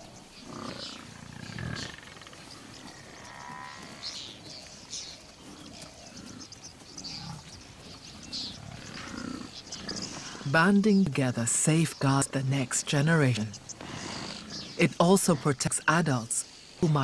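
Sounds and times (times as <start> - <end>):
buffalo grunting: 0.0 - 4.4, 5.0 - 10.7, 12.0 - 15.6
bird calls: 0.0 - 17.0.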